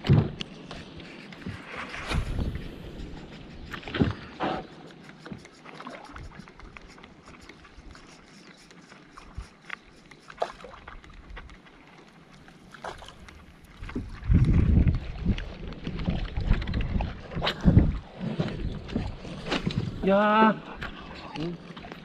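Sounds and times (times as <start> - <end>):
water lapping at hull: 0.0 - 22.0.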